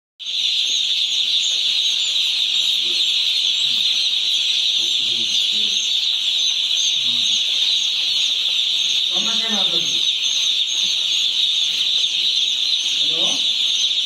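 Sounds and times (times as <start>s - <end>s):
chicks peeping: 0.2s - 14.0s.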